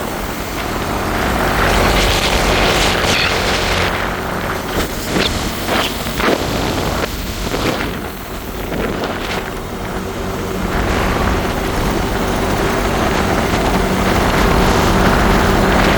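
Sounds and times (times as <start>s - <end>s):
motorcycle engine running: 0.0s - 15.9s
wind buffeting microphone: 0.0s - 15.9s.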